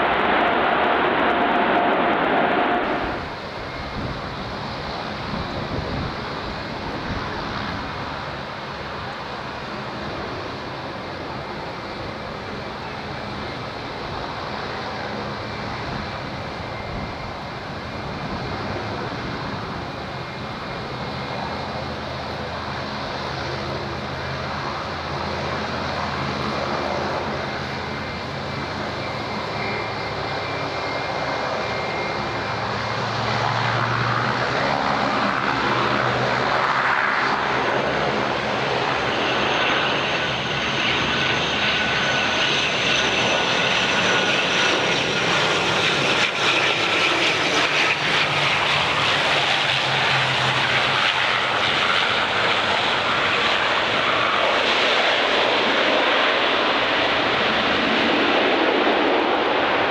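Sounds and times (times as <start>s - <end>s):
turboprop aircraft drone: 0.0s - 59.9s.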